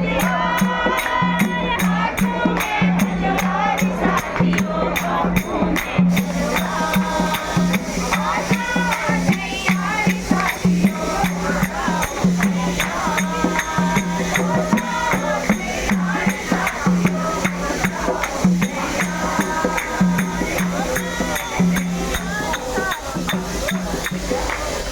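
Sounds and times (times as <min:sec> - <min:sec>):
group singing: 0:00.0 - 0:24.9
jingling percussion beat: 0:00.0 - 0:24.9.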